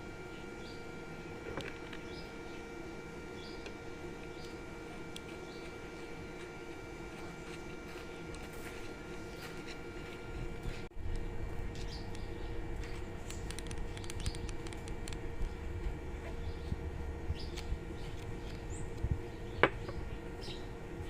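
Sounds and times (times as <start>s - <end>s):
room noise rumble and hum: 0.0s - 21.0s.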